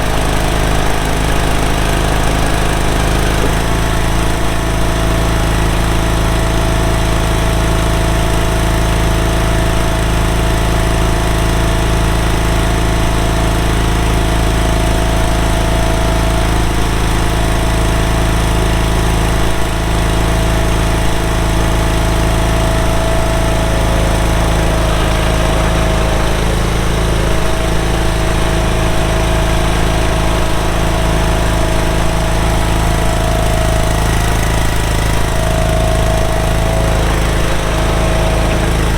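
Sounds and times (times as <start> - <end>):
gas engine running at high speed: 0.0 - 38.9.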